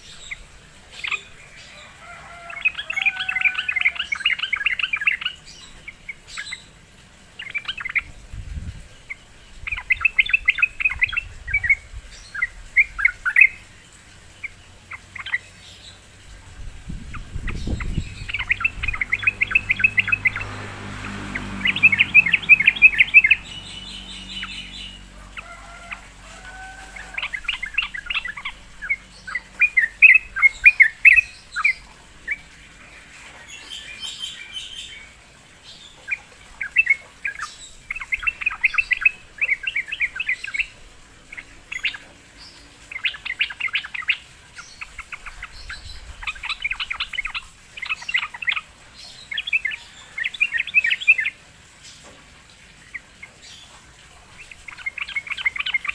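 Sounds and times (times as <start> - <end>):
bulbul singing: 0.0 - 55.9.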